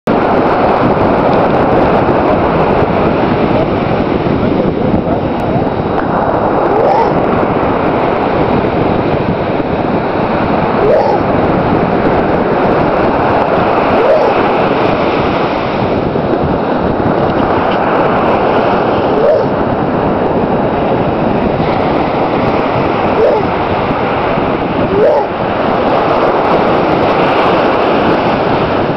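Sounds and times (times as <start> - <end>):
surf rushing: 0.1 - 28.9
wind buffeting microphone: 0.1 - 28.9.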